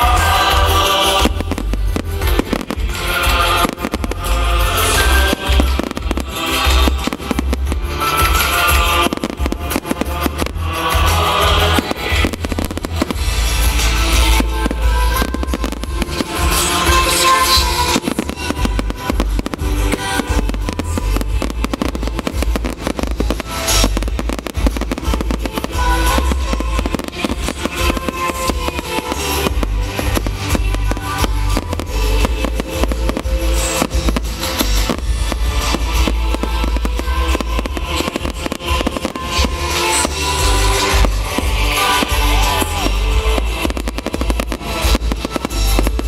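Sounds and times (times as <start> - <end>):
fireworks bangs and crackles: 0.0 - 46.0
music with drum beat: 0.0 - 46.0.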